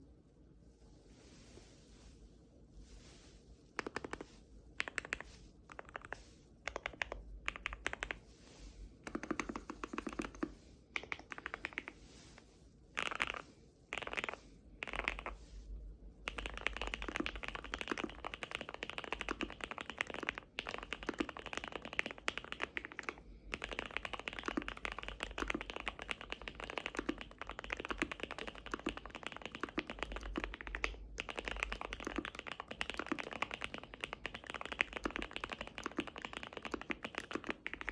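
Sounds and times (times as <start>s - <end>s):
typing on mechanical keyboard: 3.8s - 4.2s, 4.8s - 8.2s, 9.0s - 12.0s, 13.0s - 15.4s, 16.2s - 37.9s.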